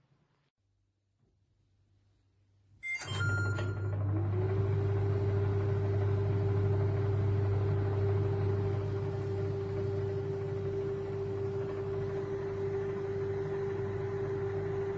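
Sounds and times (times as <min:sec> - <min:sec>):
microwave oven humming: 0:02.8 - 0:14.9.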